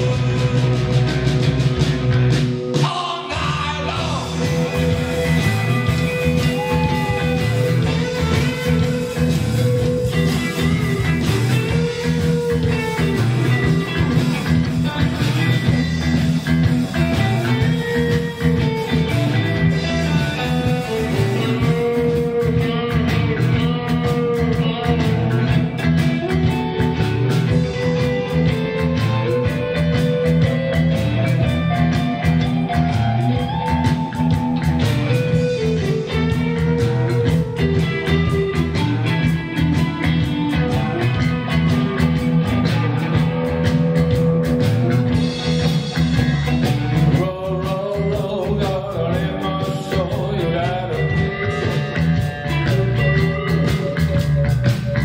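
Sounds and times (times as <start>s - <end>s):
bass guitar: 0.0s - 55.0s
drum kit with cymbals: 0.0s - 55.0s
electric guitars: 0.0s - 55.0s.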